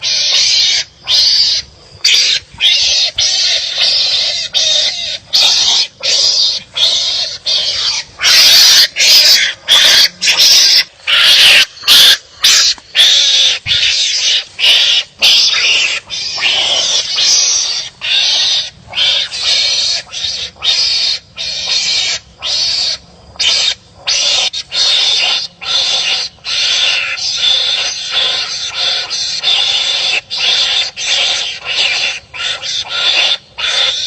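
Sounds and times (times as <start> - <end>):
wild animals barking harshly: 0.0 - 34.0.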